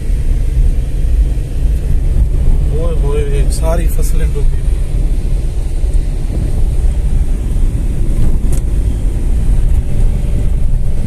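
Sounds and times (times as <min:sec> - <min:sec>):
car engine: 0:00.0 - 0:11.0
tyres on dirt track: 0:00.0 - 0:11.0
wind noise: 0:00.0 - 0:11.0.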